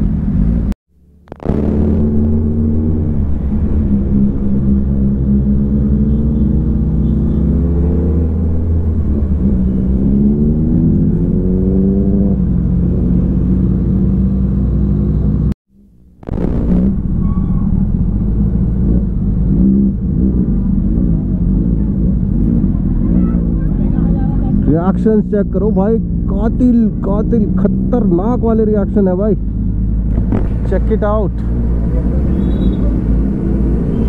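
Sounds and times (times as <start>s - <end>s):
motorcycle engine accelerating: 0.0s - 15.5s, 16.1s - 24.6s, 29.4s - 34.0s.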